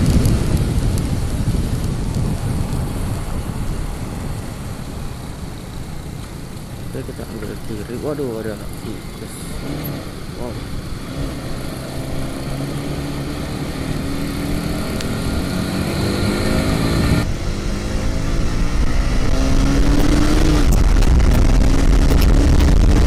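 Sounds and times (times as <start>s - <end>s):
motorcycle engine accelerating: 0.0s - 23.0s
wind rush on microphone: 0.0s - 23.0s.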